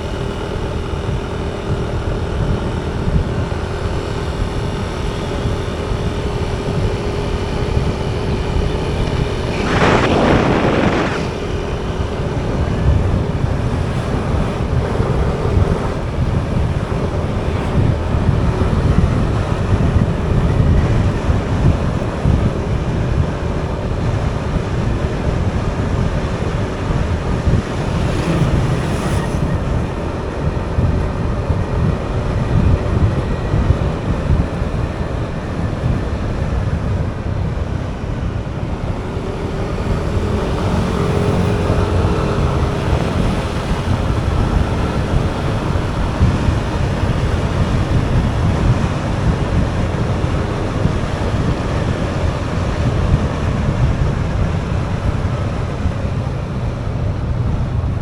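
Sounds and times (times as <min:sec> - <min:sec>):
motorcycle engine: 0:00.0 - 0:57.9
road noise: 0:00.0 - 0:58.0
wind buffeting microphone: 0:00.0 - 0:58.0.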